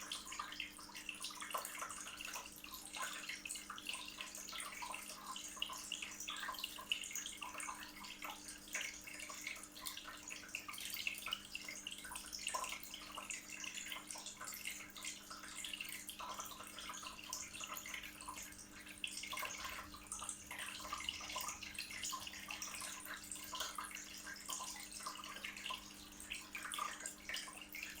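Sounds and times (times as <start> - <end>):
fountain water trickling and splashing: 0.0 - 28.0.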